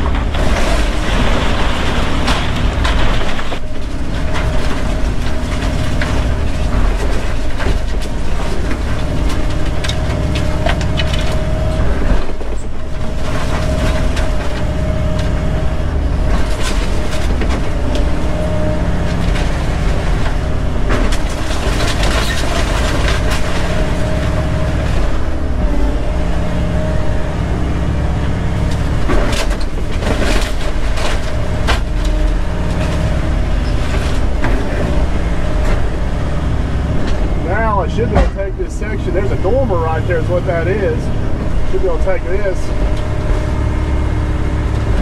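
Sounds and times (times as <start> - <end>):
diesel engine under load: 0.0 - 45.0
steady whine: 0.0 - 45.0
wood cracking and crunching: 0.0 - 45.0.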